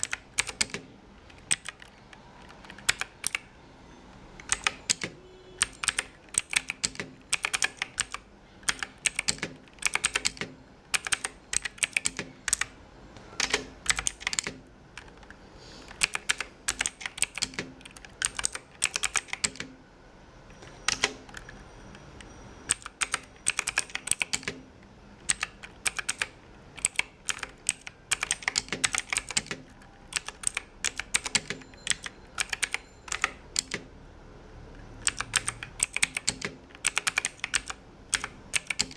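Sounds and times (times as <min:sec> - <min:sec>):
mechanical keyboard typing: 0:00.0 - 0:03.5, 0:04.4 - 0:19.8, 0:20.5 - 0:33.9, 0:34.8 - 0:38.9.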